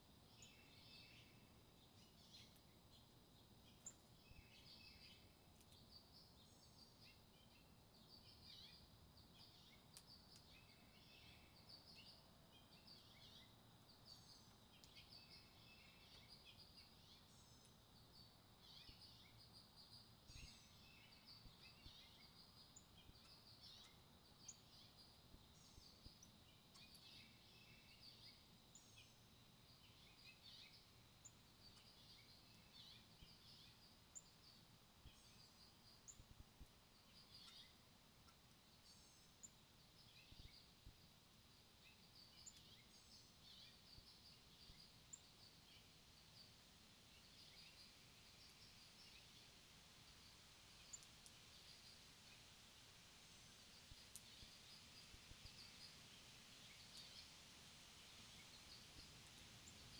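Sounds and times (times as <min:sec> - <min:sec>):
faint bird chirps: 0:00.0 - 0:52.6, 0:53.4 - 0:59.9.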